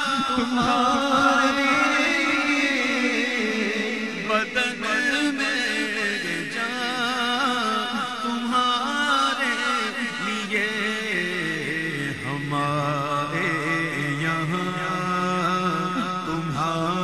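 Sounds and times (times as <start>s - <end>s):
man singing melismatically: 0.0s - 17.0s.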